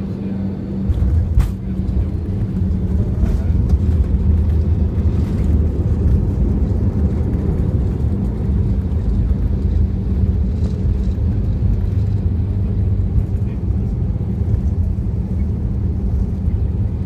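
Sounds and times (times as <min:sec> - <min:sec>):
jet engine low rumble: 0:00.0 - 0:17.0
wheels running on runway: 0:00.9 - 0:17.0.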